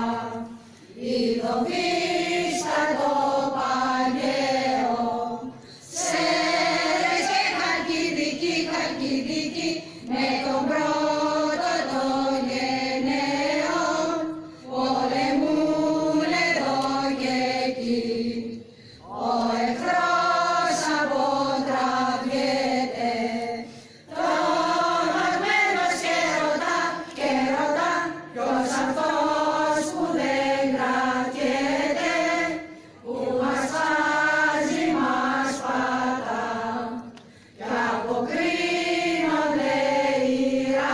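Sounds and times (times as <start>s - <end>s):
choir chanting a hymn: 0.0s - 40.9s.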